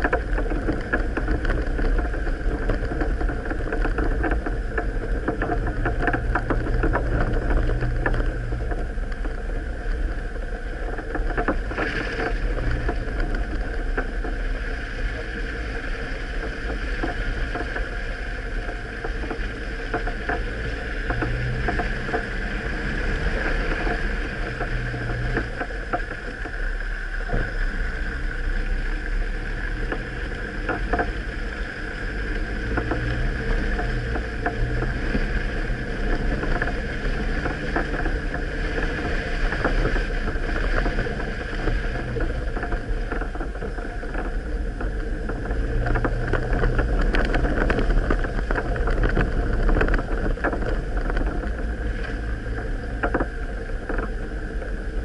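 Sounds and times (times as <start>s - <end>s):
knocks and rattles from bumps: 0.0s - 10.1s, 16.4s - 55.0s
vehicle engine running: 0.0s - 55.0s
wind on microphone: 0.0s - 55.0s.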